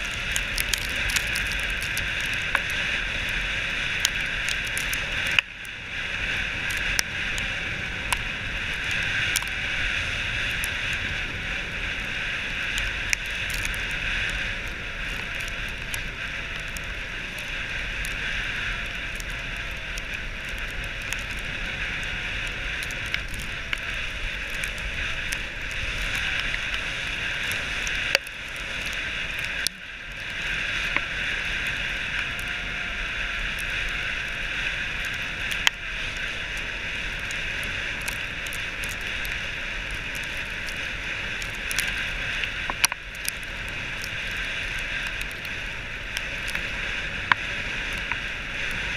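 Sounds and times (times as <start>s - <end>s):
tyres crunching on snow: 0.0s - 48.9s.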